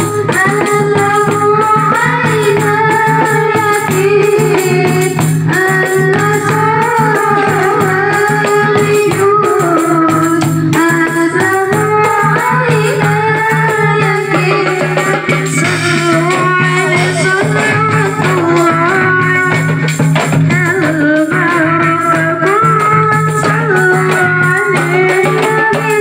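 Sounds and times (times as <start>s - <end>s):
hand drums: 0.0s - 26.0s
rattling percussion: 0.0s - 26.0s
woman singing: 0.0s - 26.0s.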